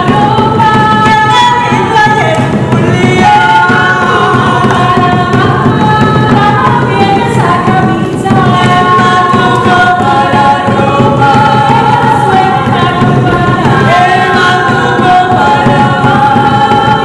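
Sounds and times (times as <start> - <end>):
hand drums: 0.0 - 17.0
women singing together: 0.0 - 17.0.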